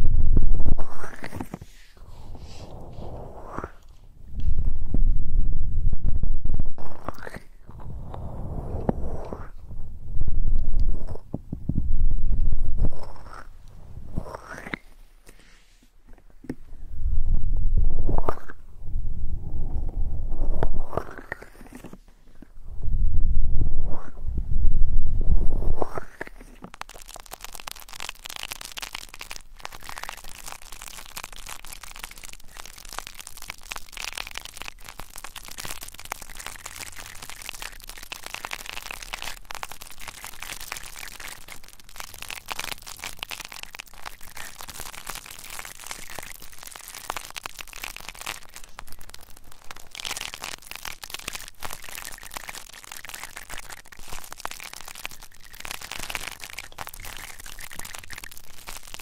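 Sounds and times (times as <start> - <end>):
close crackling and crinkling: 0.0 - 9.7, 10.4 - 16.8, 17.9 - 18.7, 19.8 - 22.6, 25.4 - 59.0.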